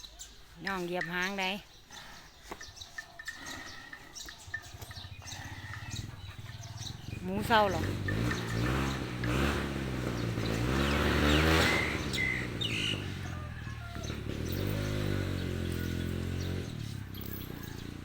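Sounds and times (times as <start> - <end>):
birds chirping: 0.0 - 18.0
elephants rumbling: 1.9 - 18.0.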